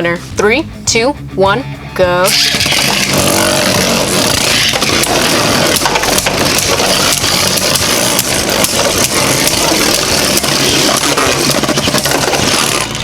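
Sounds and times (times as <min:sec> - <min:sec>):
spinning tops colliding: 0:02.3 - 0:13.0.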